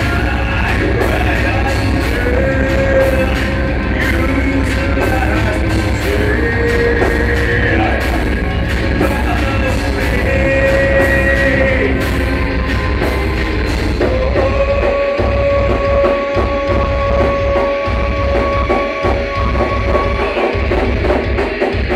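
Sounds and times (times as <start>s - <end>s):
heavy rock band playing: 0.0s - 21.9s
person singing: 0.0s - 21.9s.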